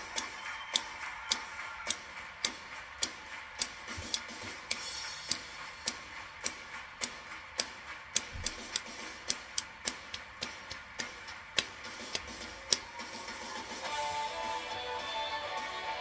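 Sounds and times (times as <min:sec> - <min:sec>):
sharp regular clicks: 0:00.0 - 0:13.5.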